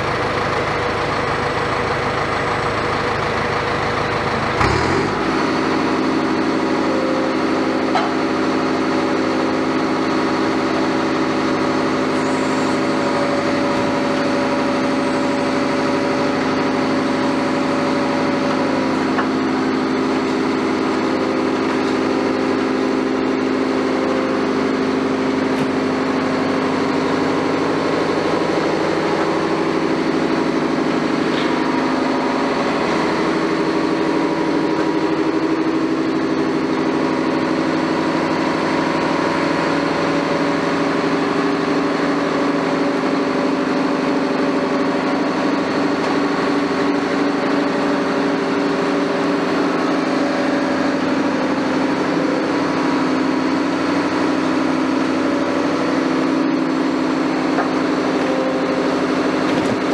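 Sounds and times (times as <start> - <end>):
excavator diesel engine and hydraulics: 0.0 - 59.9.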